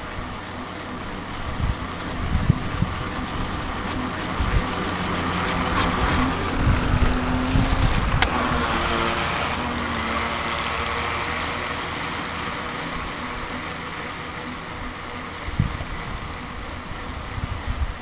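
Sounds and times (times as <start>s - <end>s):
boat wake hissing through water: 0.0s - 18.0s
toy boat electric motor whining: 0.0s - 18.0s.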